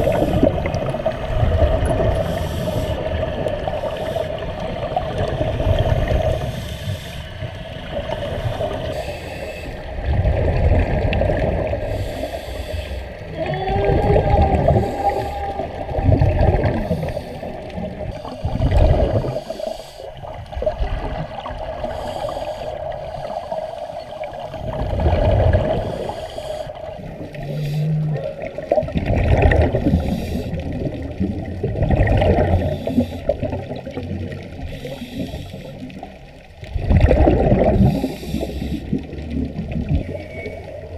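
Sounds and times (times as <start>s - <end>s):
bubbles gurgling underwater: 0.0s - 6.7s, 9.7s - 12.4s, 13.1s - 19.6s, 20.2s - 22.2s, 24.1s - 40.9s
steady underwater hum: 0.0s - 40.9s.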